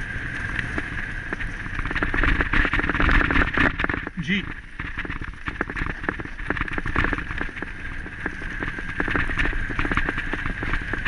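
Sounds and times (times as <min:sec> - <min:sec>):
wind noise: 0:00.0 - 0:11.0.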